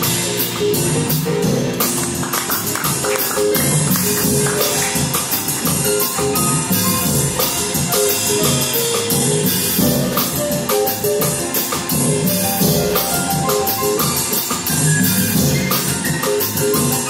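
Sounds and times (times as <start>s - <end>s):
drum kit played with sticks: 0.0s - 17.0s.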